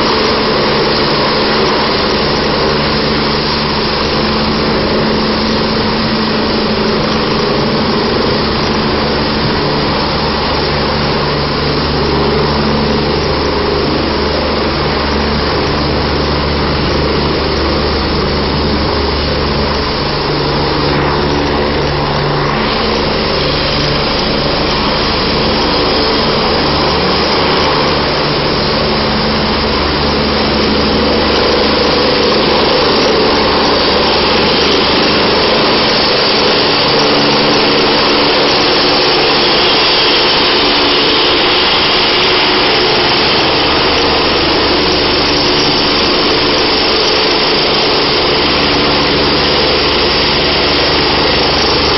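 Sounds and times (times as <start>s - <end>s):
helicopter rotor noise: 0.0s - 51.9s
helicopter turbine whine: 0.0s - 51.9s
low hum: 0.0s - 51.9s.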